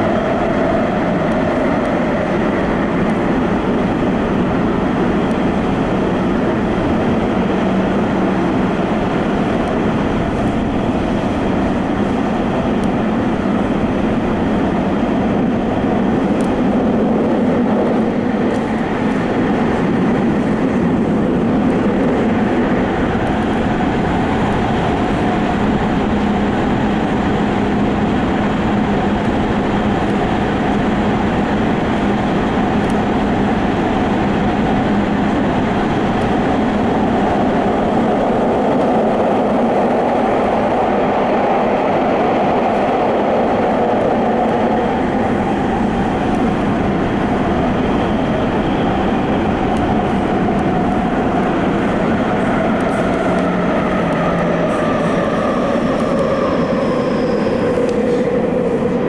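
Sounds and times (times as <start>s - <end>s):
subway train rumbling in tunnel: 0.0s - 59.0s.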